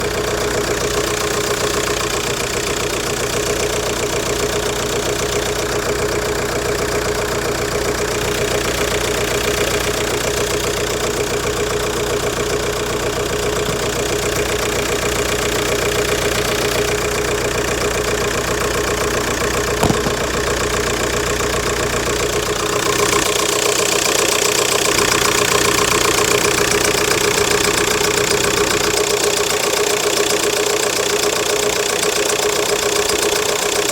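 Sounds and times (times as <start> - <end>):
diesel engine idling with knocking: 0.0 - 33.9.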